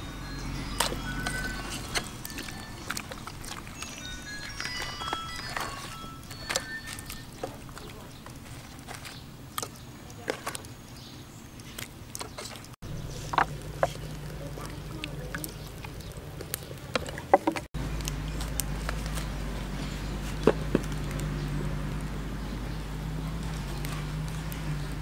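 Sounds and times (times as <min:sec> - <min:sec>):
low steady hum: 0:00.0 - 0:25.0
hands mixing meat in metal pot: 0:00.4 - 0:10.9, 0:11.7 - 0:21.8.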